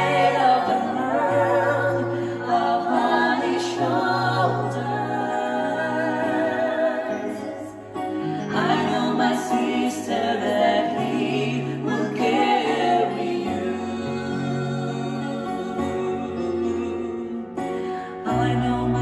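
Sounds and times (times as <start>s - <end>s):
electronic keyboard chords: 0.0s - 19.0s
voices singing in harmony: 0.0s - 19.0s.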